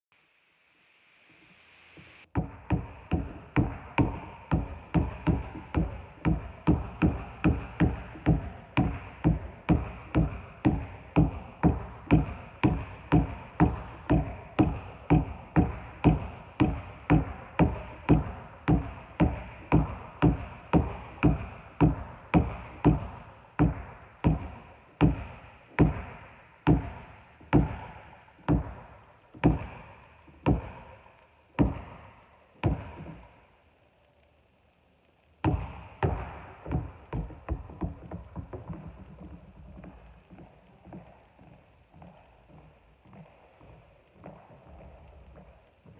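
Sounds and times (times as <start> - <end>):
basketball bouncing on wooden floor: 2.3 - 31.0, 31.6 - 33.3, 35.4 - 45.9.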